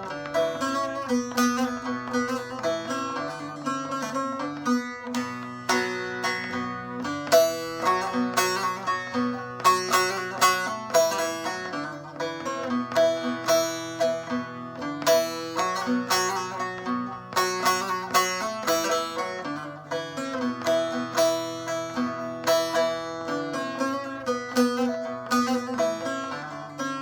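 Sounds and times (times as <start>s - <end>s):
plucked string instrument melody: 0.0s - 27.0s.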